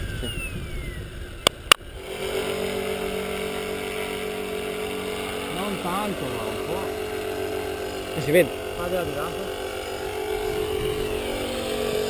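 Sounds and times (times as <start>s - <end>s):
falling whine: 0.0s - 12.0s
model helicopter rotor hum: 0.0s - 12.0s.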